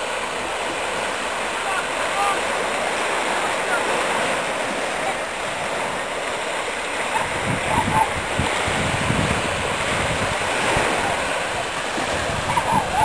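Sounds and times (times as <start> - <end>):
small waves washing on beach: 0.0 - 13.0.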